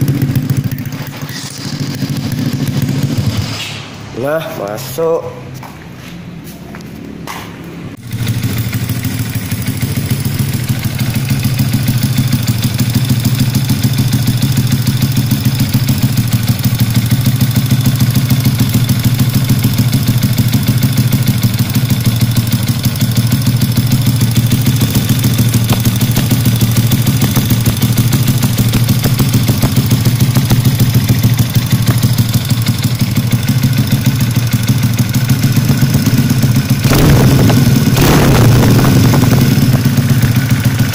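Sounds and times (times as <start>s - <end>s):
motorcycle engine idling: 0.0s - 3.4s, 8.0s - 40.9s.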